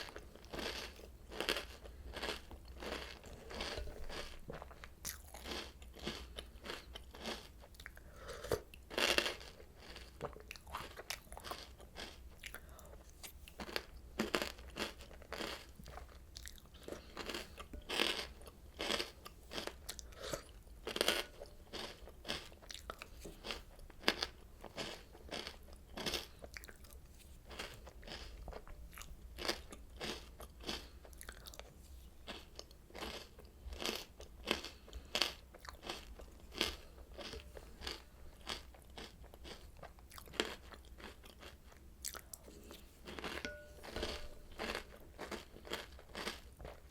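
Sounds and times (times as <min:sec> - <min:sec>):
crunchy cereal chewing: 0:00.0 - 0:46.9.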